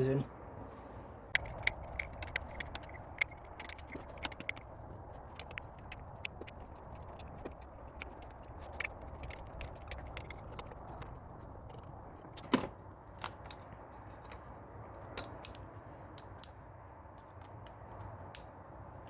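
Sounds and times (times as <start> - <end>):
metallic tool clicks and knocks: 1.4 - 10.7, 12.4 - 18.5.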